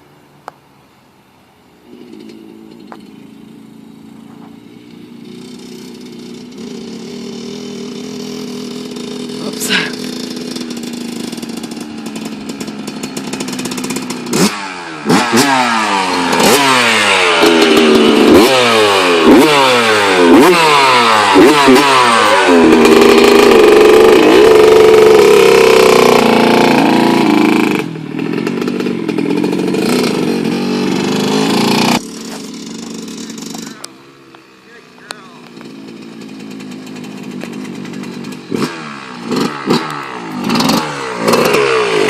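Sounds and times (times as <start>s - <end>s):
dirt bike engine revving: 1.8s - 42.0s.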